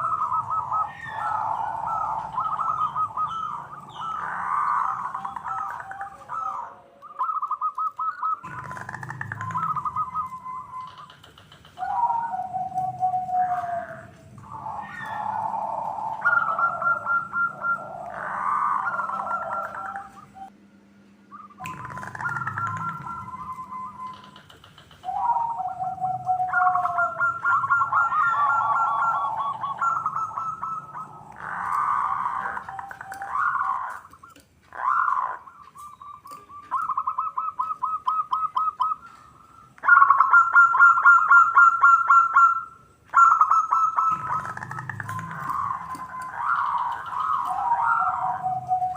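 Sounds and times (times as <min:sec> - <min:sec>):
doves cooing: 0:00.0 - 0:20.6, 0:21.2 - 0:48.9
rough bird calls: 0:00.0 - 0:20.6, 0:21.3 - 0:48.9.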